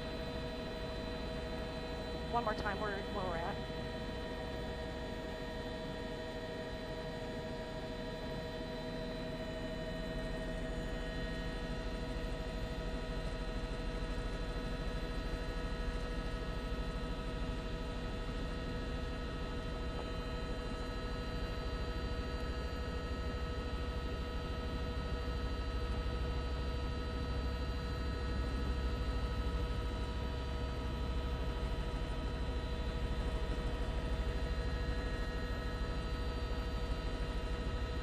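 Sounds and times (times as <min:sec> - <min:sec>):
helicopter cabin drone: 0:00.0 - 0:38.0.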